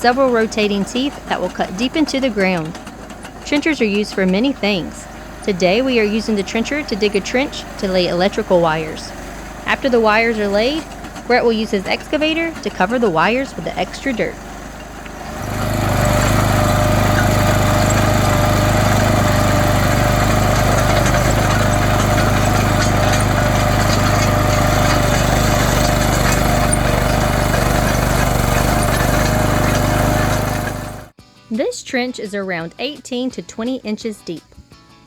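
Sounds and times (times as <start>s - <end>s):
trencher engine droning: 0.0s - 31.1s.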